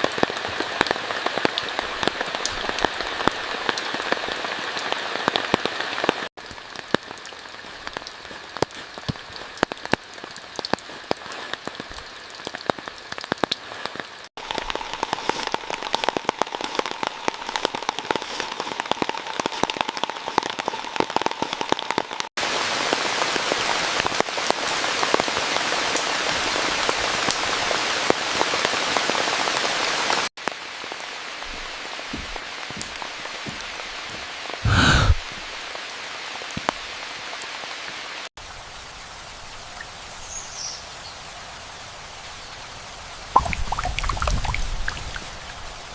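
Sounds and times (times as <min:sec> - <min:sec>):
heavy rain pattering: 0:00.0 - 0:38.2.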